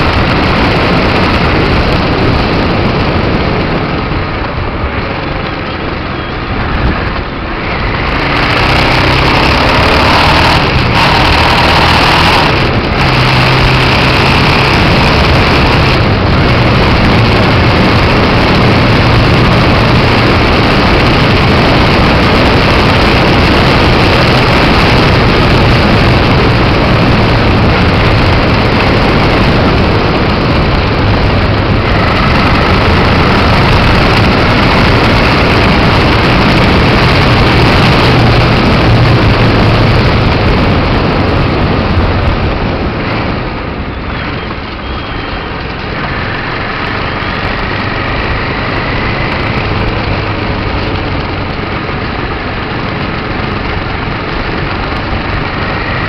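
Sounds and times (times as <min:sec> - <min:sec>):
motorcycle engine: 0:00.0 - 0:56.0
wind rush on microphone: 0:00.0 - 0:56.0.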